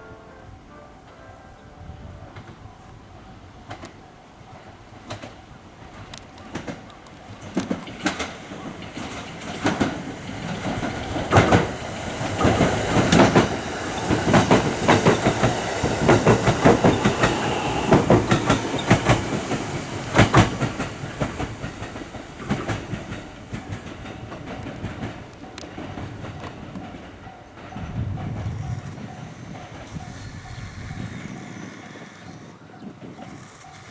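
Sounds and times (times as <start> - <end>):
electric train wheels clacking: 3.6 - 33.9.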